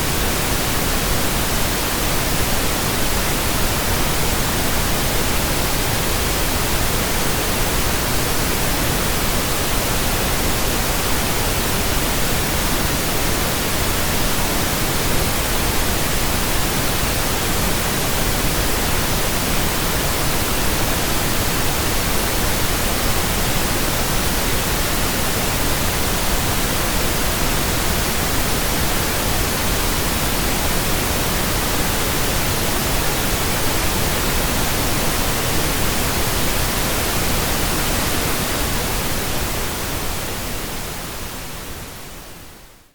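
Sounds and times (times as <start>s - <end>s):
static hiss: 0.0s - 42.9s.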